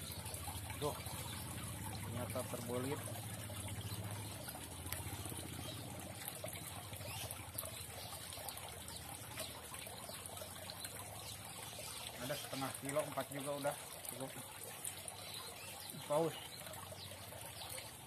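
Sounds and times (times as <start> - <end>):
trickle of running water: 0.0 - 18.0.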